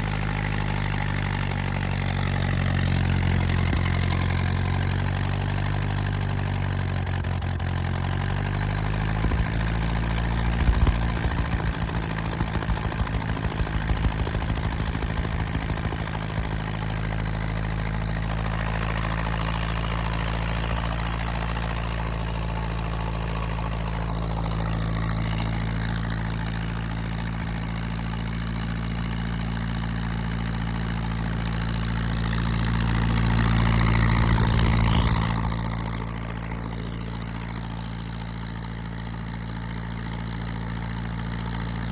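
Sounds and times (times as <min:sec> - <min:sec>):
engine running rough then idling: 0:00.0 - 0:41.9.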